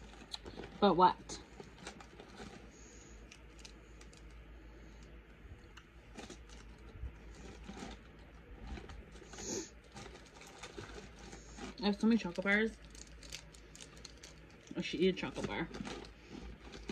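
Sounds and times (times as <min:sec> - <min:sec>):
snack packages rustling: 0:00.0 - 0:16.9.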